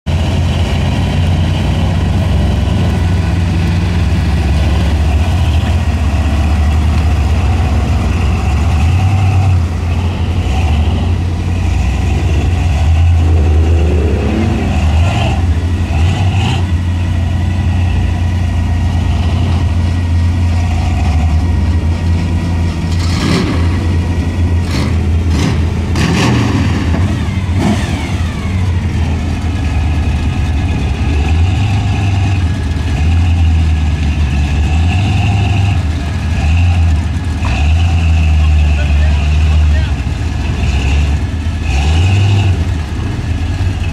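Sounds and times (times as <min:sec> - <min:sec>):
truck engines idling and revving: 0:00.0 - 0:43.9.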